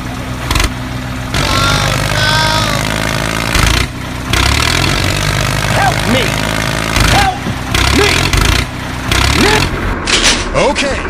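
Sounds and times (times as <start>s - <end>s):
diesel tractor engine idling: 0.0s - 10.1s.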